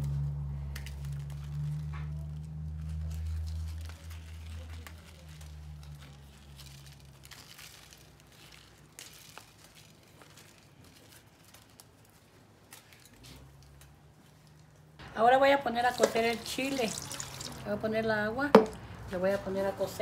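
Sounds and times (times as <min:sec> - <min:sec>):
dried chile pods crackling: 0:00.0 - 0:20.0.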